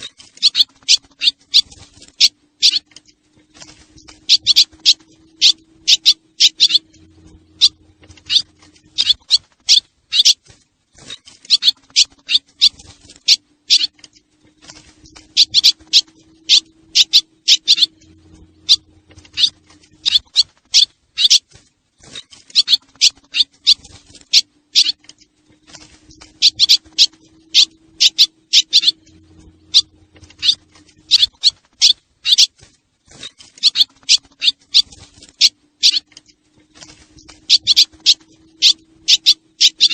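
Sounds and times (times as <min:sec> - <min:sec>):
swallow twittering chirps: 0:00.0 - 0:10.4, 0:11.0 - 0:39.9
faint low hum: 0:00.0 - 0:39.9.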